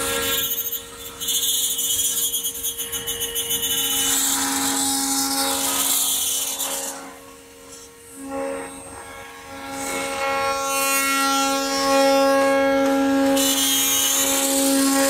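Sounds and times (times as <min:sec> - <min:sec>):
machine spindle whining: 0:00.0 - 0:15.0.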